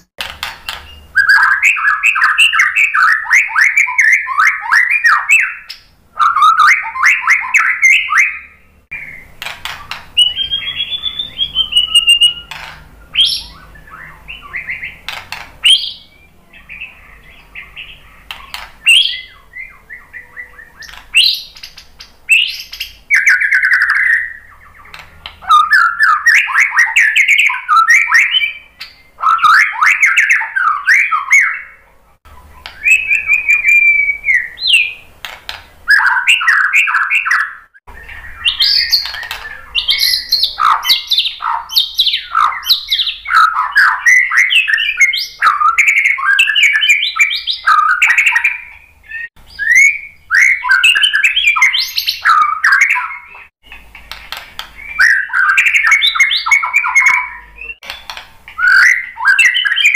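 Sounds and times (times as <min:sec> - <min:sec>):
bird singing whistles and trills: 0:00.0 - 0:35.1, 0:35.9 - 0:59.9.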